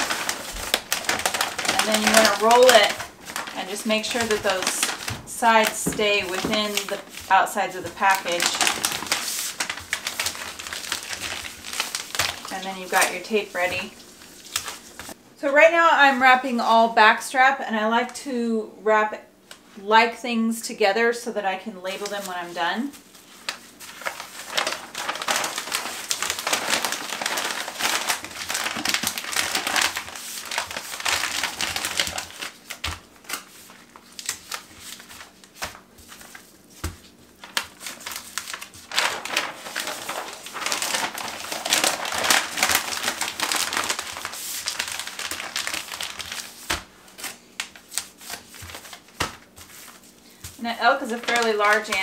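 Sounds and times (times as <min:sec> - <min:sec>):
paper rustling and crinkling: 0:00.0 - 0:15.2, 0:21.9 - 0:52.0.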